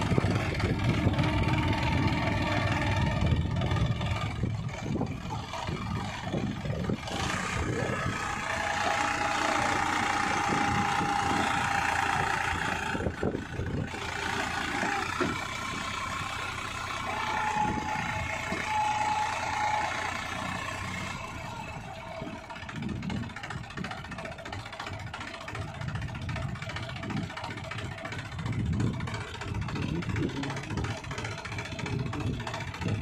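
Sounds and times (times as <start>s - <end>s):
steady whine: 0.0s - 33.0s
tractor engine under load: 0.0s - 33.0s.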